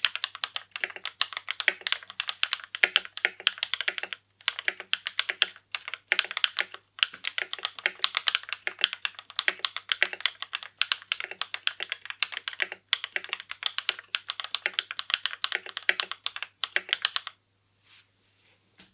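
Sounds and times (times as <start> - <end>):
mechanical keyboard typing: 0.0 - 17.4.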